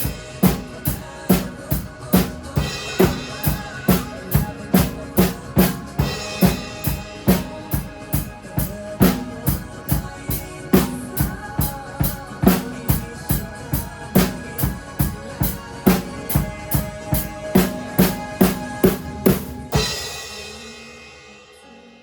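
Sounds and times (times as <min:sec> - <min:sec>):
drum kit kick and snare: 0:00.0 - 0:21.2
pop song backing track: 0:00.0 - 0:22.0.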